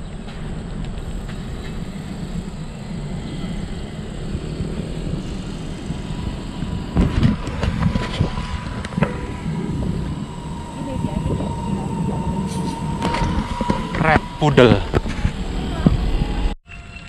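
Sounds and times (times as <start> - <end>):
bicycle tyres rolling over paving: 0.0 - 16.6
wind on microphone: 0.0 - 16.6.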